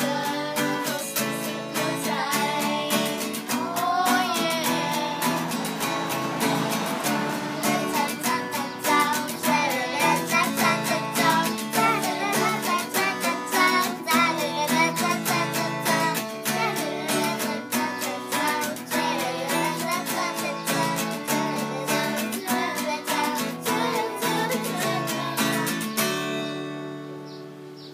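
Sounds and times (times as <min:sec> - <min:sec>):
girls singing together: 0:00.0 - 0:26.1
strummed acoustic guitar: 0:00.0 - 0:27.9.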